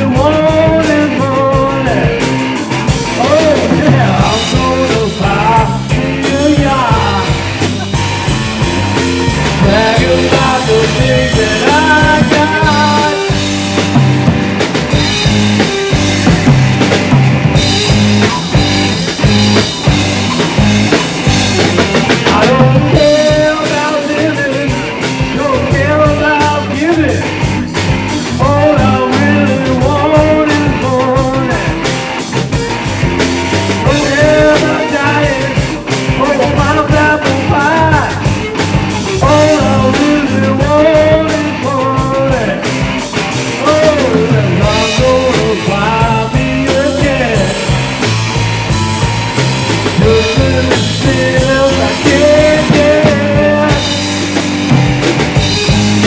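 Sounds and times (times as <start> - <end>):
bending lead guitar melody: 0.0 - 56.0
rock band playing live: 0.0 - 56.0.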